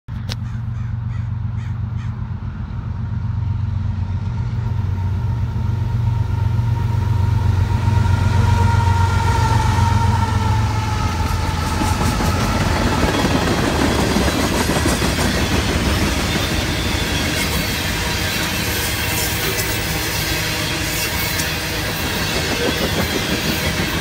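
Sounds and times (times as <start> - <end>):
diesel locomotives passing: 0.1 - 24.0.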